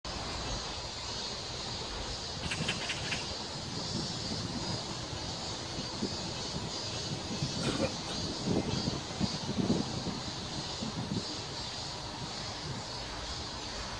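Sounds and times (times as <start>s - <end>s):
outdoor hiss with low rumble: 0.1s - 13.9s.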